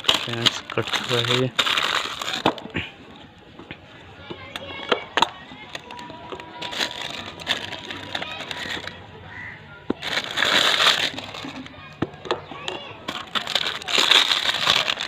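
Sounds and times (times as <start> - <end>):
plastic tubs being handled: 0.0 - 15.0.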